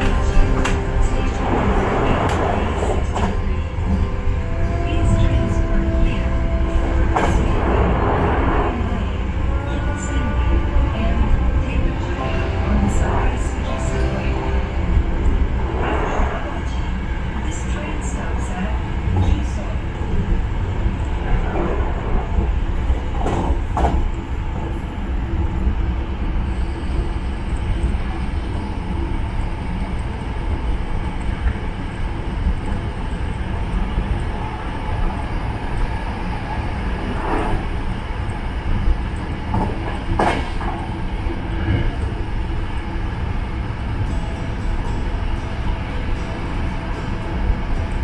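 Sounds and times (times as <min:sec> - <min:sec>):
rumble of train wheels on rail: 0:00.0 - 0:48.0.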